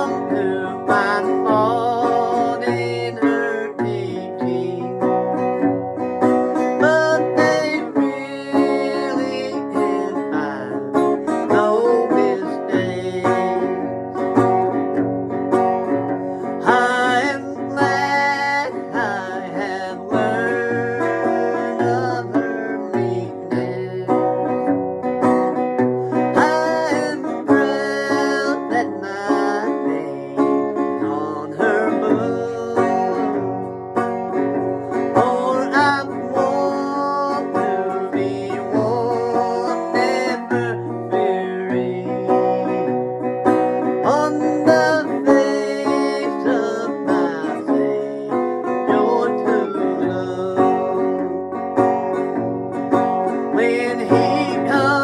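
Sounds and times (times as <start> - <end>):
banjo: 0.0 - 55.0
country gospel music: 0.0 - 55.0
plucked guitar: 0.0 - 55.0.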